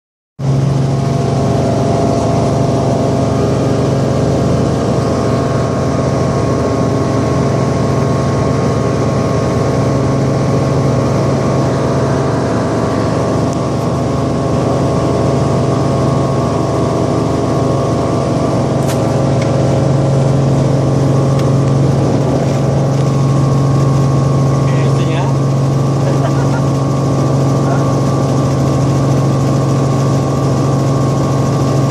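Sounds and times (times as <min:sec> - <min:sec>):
helicopter engine and rotors: 0:00.4 - 0:31.9.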